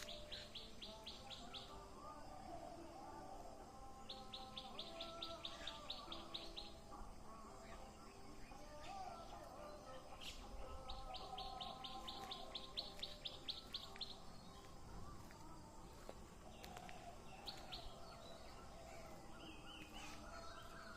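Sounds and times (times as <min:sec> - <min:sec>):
low wavering bird calls: 0:00.0 - 0:01.8, 0:04.1 - 0:20.9.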